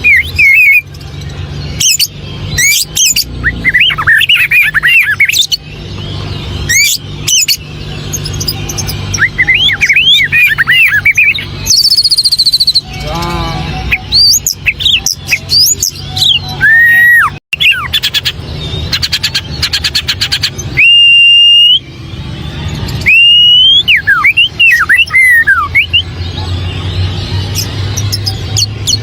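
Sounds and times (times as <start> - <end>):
bird singing whistles and trills: 0.0 - 29.0.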